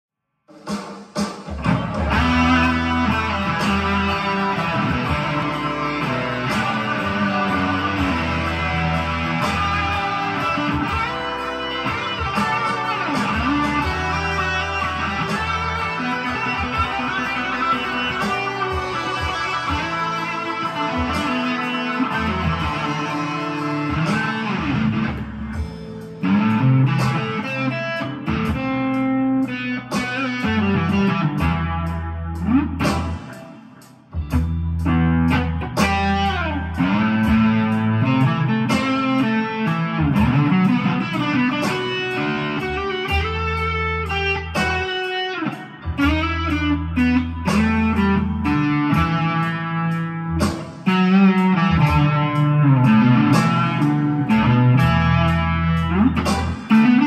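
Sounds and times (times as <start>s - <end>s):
distorted electric guitar blues lead: 1.5s - 57.0s.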